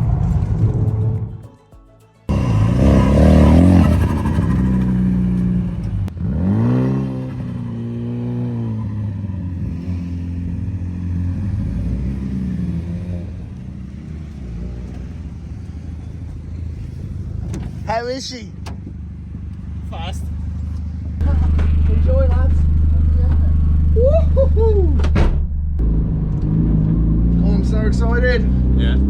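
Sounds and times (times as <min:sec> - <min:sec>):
car engine revving: 0:00.0 - 0:01.5, 0:02.3 - 0:29.0.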